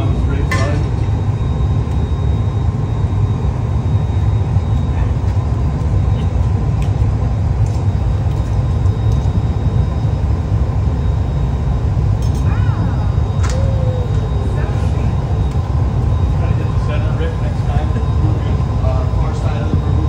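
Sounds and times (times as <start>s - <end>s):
furnace roaring: 0.0s - 20.0s.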